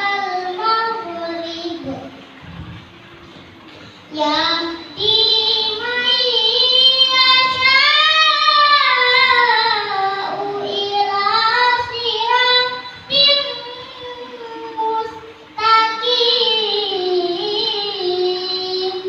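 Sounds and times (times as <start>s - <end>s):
boy chanting melodically: 0.0s - 2.8s, 4.1s - 19.0s.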